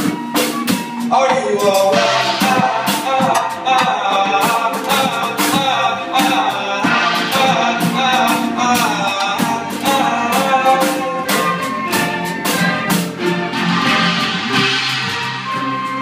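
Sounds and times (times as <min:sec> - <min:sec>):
drum kit beat: 0:00.0 - 0:16.0
guitar: 0:00.0 - 0:16.0
sustained melody line: 0:00.0 - 0:16.0.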